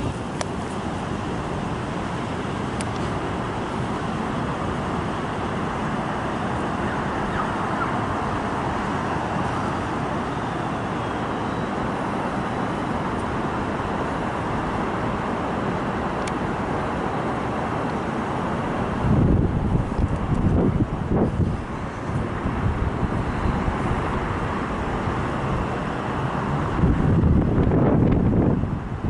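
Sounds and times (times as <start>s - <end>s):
city road traffic: 0.0s - 29.0s.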